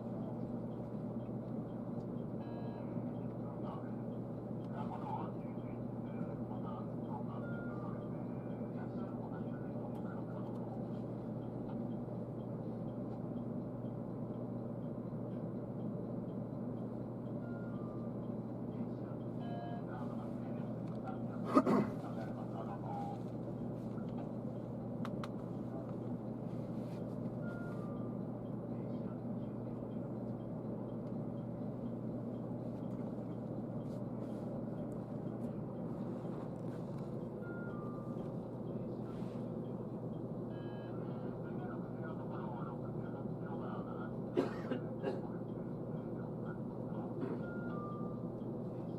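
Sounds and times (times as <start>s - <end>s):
train carriage hum: 0.0s - 48.9s.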